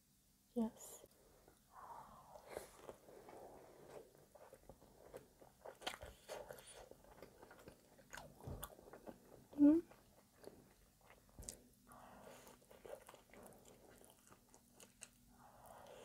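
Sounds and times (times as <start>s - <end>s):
chewing soft bread: 1.1s - 16.0s.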